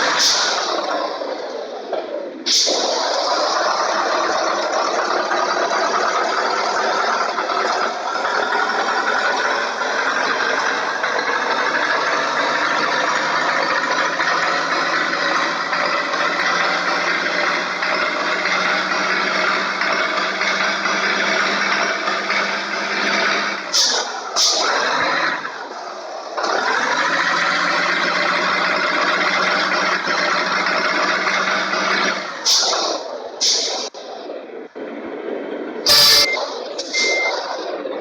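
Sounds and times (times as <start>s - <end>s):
large vehicle engine running: 0.0s - 38.0s.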